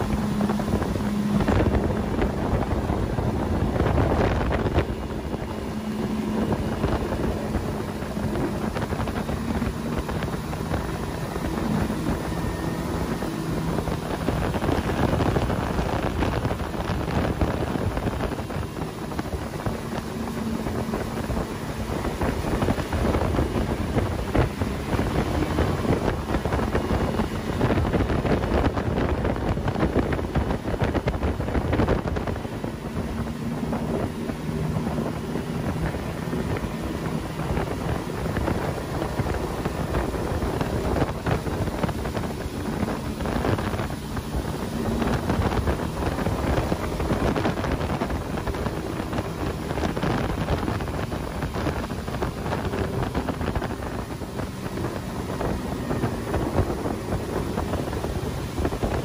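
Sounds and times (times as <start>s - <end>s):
outboard motor running: 0.0s - 59.0s
rush of boat wake: 0.0s - 59.0s
wind buffeting on microphone: 0.0s - 59.0s.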